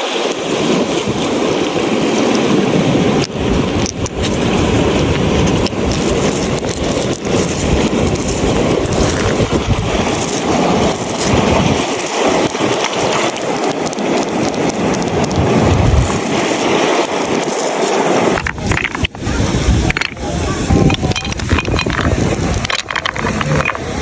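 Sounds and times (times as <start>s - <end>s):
water rushing with deep rumble: 0.0s - 24.0s.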